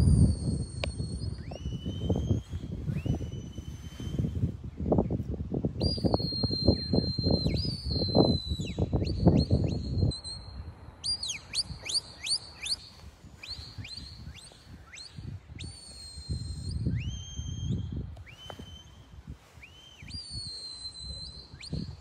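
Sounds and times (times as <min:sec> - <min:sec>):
shepherd's whistle: 0:00.0 - 0:04.5, 0:05.8 - 0:22.0
wind buffeting microphone: 0:00.0 - 0:22.0.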